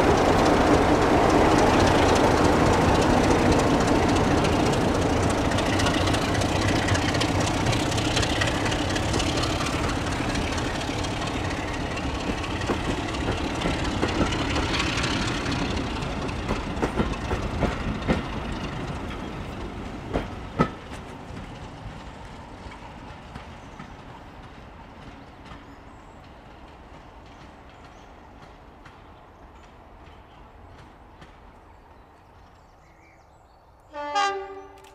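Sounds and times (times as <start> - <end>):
diesel locomotive engines running: 0.0 - 31.7
coach wheels clicking over rail joints: 0.0 - 31.8.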